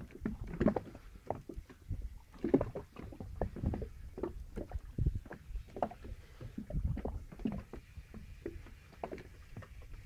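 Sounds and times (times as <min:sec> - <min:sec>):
waves lapping against inflatable boat: 0:00.0 - 0:10.0.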